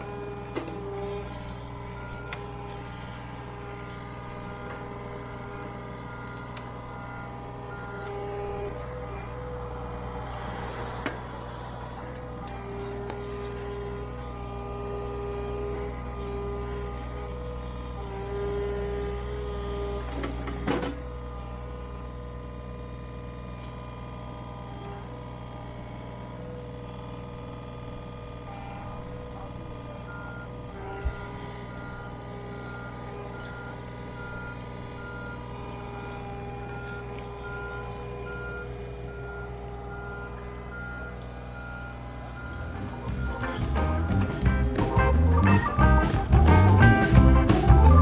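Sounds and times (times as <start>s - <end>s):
excavator diesel engine running: 0.0s - 48.0s
hydraulic whine: 0.0s - 48.0s.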